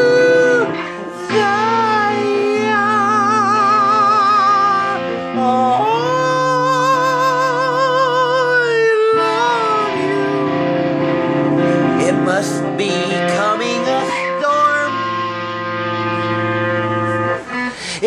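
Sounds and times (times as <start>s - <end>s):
electric guitar notes: 0.0s - 18.0s.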